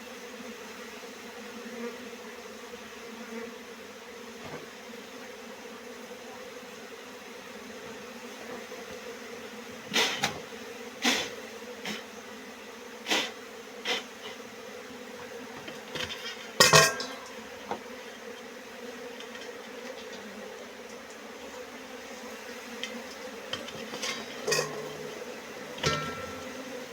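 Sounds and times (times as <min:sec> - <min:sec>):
bees buzzing: 0:00.1 - 0:26.9.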